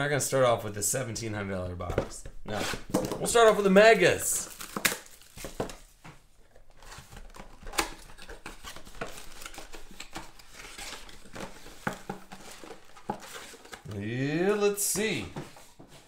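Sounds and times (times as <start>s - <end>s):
cardboard rustling: 1.9s - 16.0s.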